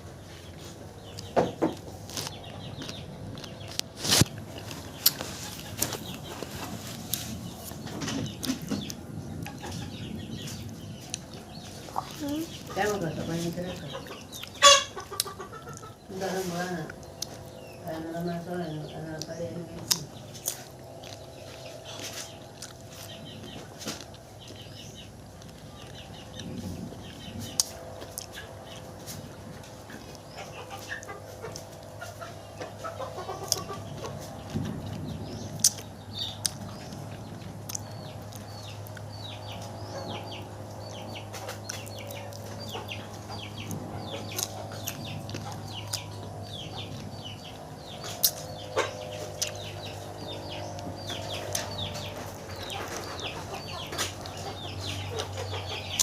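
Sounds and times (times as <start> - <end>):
chickens clucking and peeping: 0.0 - 56.0
steady low hum: 0.0 - 56.0.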